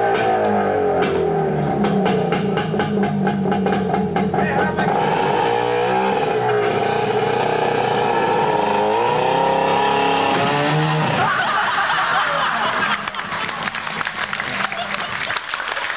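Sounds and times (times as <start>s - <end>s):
car engine revving: 0.0s - 15.3s.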